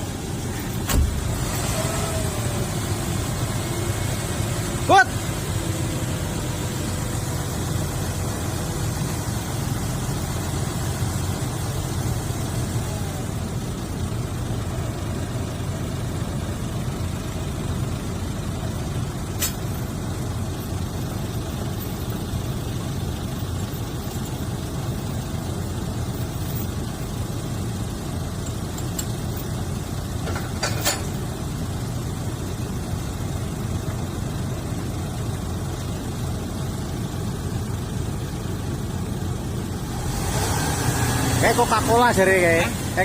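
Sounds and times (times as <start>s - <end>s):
heavy vehicle engine rumble: 0.0s - 43.0s.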